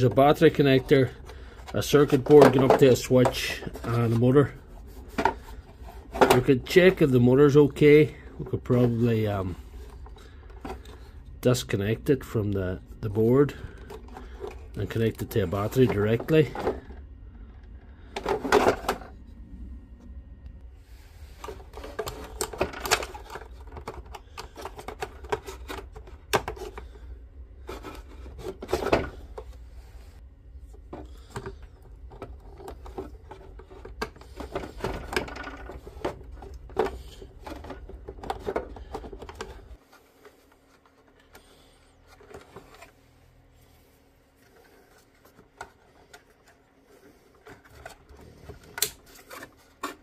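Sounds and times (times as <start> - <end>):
low hum: 0.0 - 49.9.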